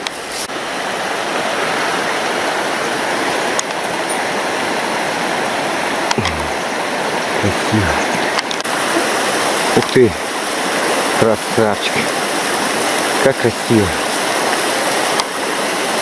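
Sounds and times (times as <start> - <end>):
waterfall rushing: 0.4 - 16.0.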